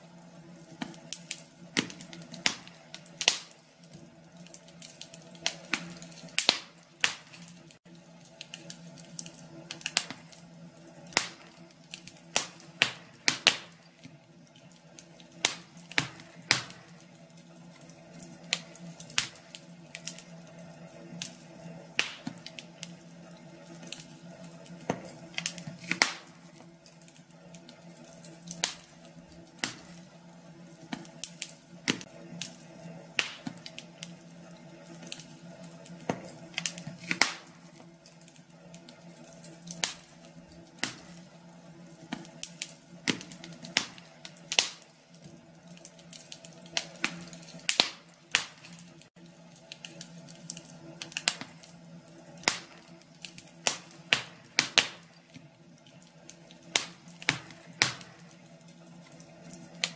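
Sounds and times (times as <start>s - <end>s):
low steady hum: 0.0s - 59.9s
wood fire crackling: 0.0s - 59.9s.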